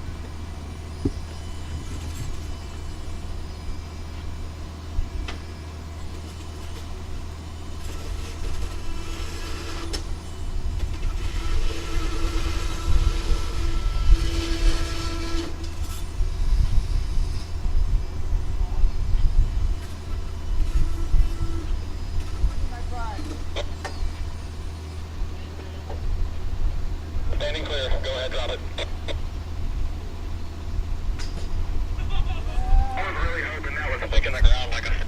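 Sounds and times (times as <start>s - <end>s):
engine running with low hum: 0.0s - 35.0s.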